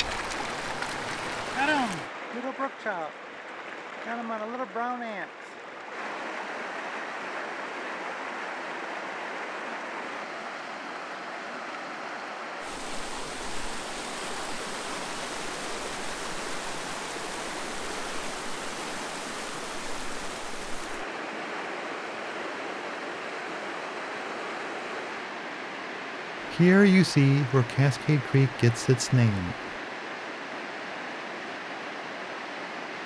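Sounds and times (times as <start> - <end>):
creek rapids rushing over boulders: 0.0 - 33.0.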